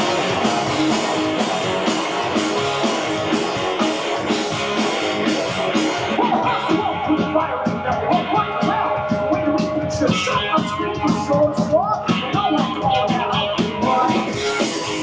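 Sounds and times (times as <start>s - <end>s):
bass guitar: 0.0s - 15.0s
drum kit with cymbals: 0.0s - 15.0s
electric guitars: 0.0s - 15.0s.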